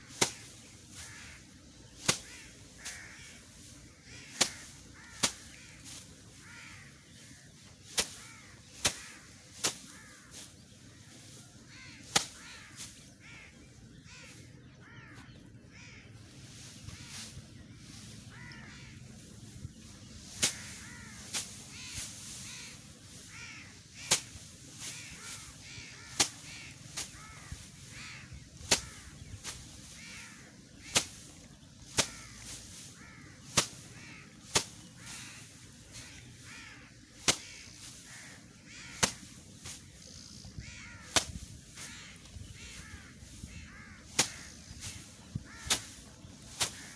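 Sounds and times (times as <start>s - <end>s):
rice stalks snapping: 0.0s - 13.6s, 16.5s - 46.9s.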